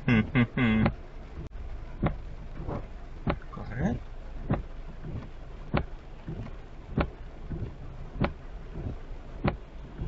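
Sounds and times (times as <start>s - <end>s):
heavy rain hiss: 0.0s - 10.0s
road noise: 0.0s - 10.0s
windshield wipers knocking: 0.1s - 3.6s, 4.4s - 10.0s.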